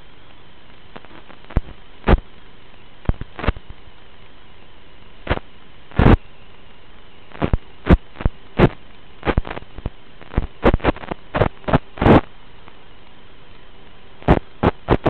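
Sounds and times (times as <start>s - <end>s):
electrical hum: 0.0s - 15.0s
static crackles: 0.0s - 15.0s.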